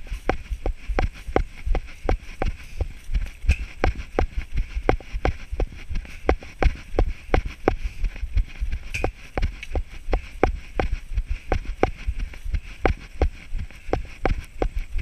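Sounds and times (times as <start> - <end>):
running footsteps on grass: 0.0 - 15.0.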